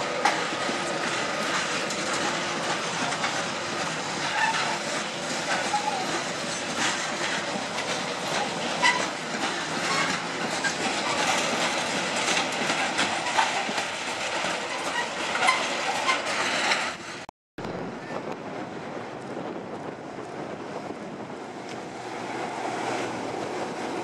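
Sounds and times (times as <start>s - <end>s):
freight train wagons rolling past: 0.0s - 24.0s.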